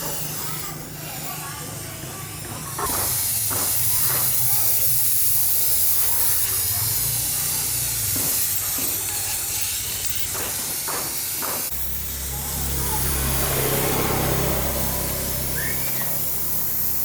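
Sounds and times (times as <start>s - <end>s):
high spraying hiss: 0.0s - 17.0s.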